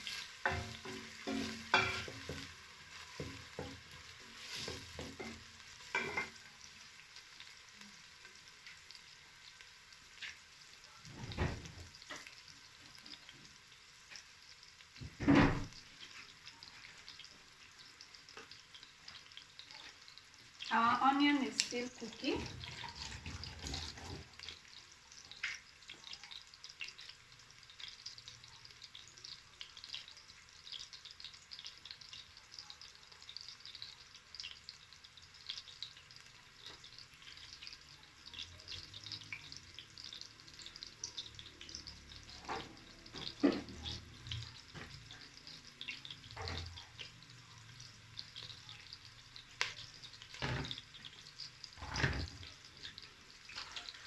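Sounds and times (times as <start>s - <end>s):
onions sizzling in oil: 0.0s - 54.0s.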